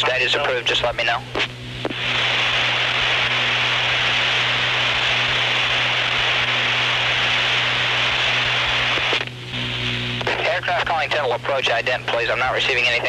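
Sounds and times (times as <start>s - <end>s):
low hum: 0.0s - 13.0s
radio hiss: 0.0s - 13.0s.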